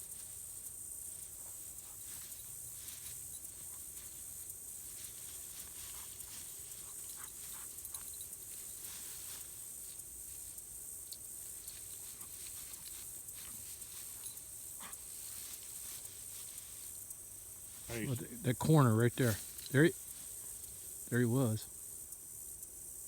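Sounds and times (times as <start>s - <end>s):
footsteps crunching through dry cover: 0.0s - 21.6s
steady high hiss: 0.0s - 23.0s.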